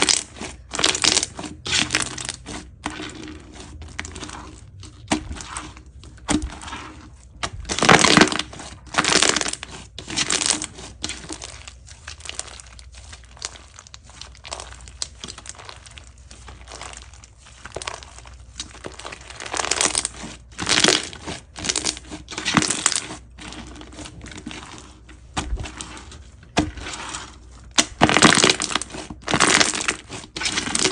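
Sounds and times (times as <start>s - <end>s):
slime popping and crackling: 0.0s - 30.9s.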